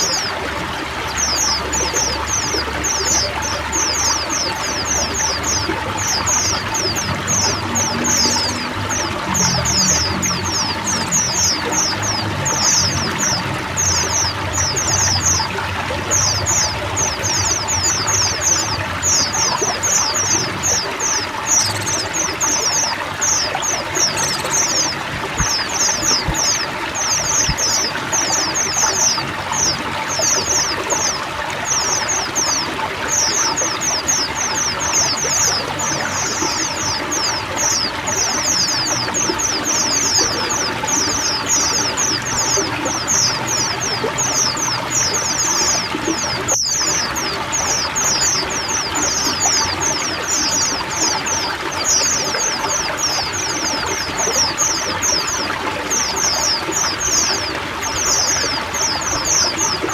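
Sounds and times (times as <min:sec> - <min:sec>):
chorus of birds twittering: 0:00.0 - 0:59.9
pouring trickling water: 0:00.0 - 0:59.9.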